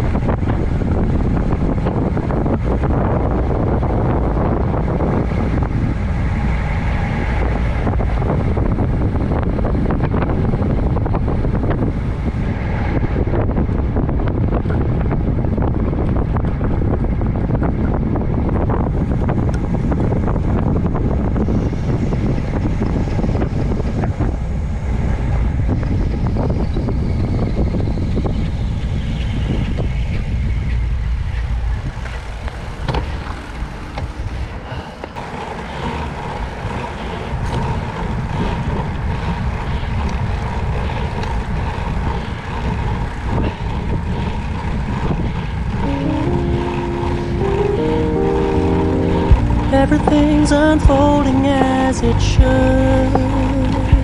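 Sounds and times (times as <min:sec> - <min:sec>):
vehicle road and engine noise: 0:00.0 - 0:54.0
wind rushing over microphone: 0:00.0 - 0:54.0.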